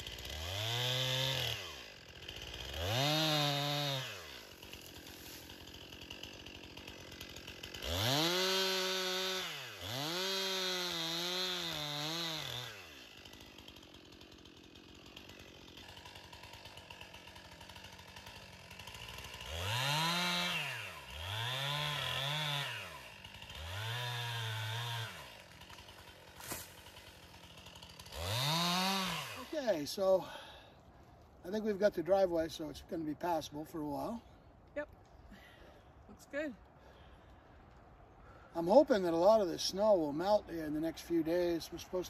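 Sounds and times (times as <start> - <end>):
chainsaw revving and idling: 0.0 - 42.0.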